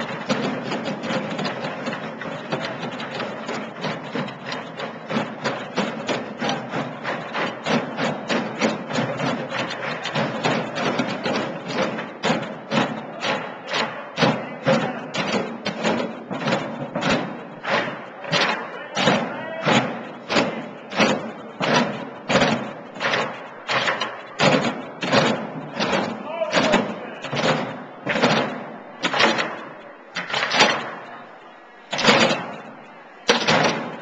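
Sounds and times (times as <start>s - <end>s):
drumming on plastic containers: 0.0s - 34.0s.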